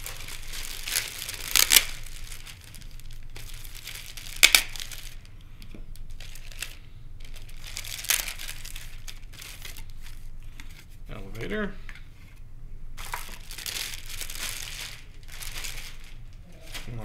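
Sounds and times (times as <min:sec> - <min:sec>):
plastic bag crinkling: 0:00.0 - 0:05.3, 0:05.9 - 0:10.9, 0:13.0 - 0:17.0.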